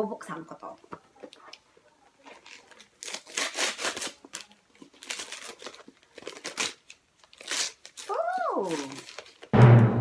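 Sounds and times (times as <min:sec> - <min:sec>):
gift wrapping crinkling: 0:01.3 - 0:09.5.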